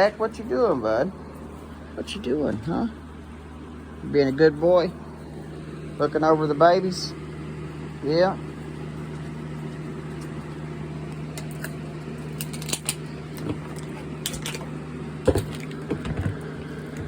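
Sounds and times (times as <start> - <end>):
electric fan humming: 0.0 - 17.0.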